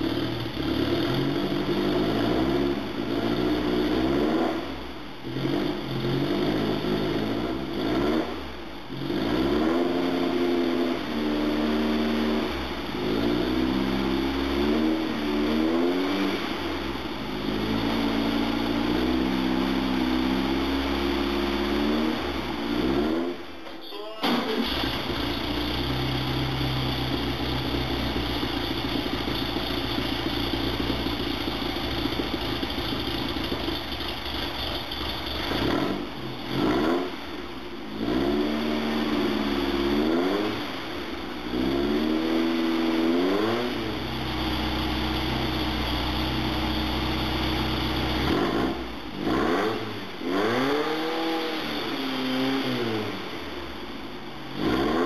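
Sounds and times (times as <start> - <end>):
car engine running and revving: 0.0 - 23.5, 24.2 - 55.0.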